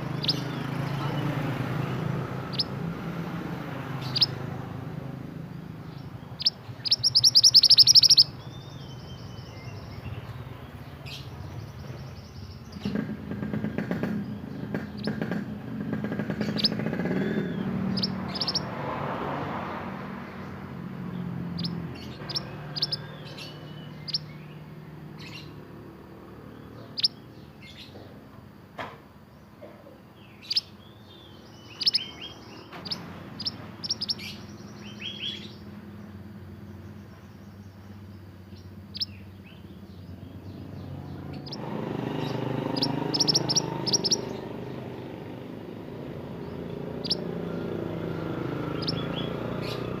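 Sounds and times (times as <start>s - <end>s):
songbird rapid trill: 0.0s - 27.9s, 30.2s - 50.0s
songbird high chirps: 0.0s - 50.0s.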